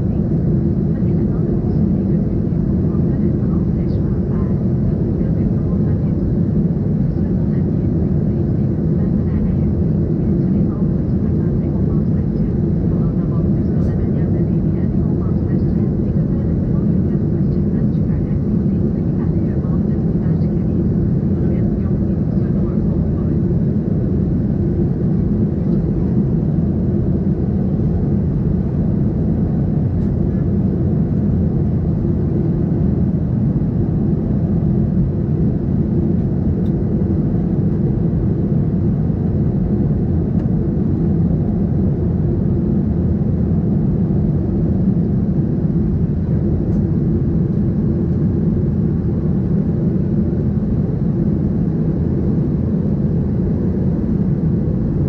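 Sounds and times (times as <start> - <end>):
jet engine cabin roar: 0.0 - 55.0.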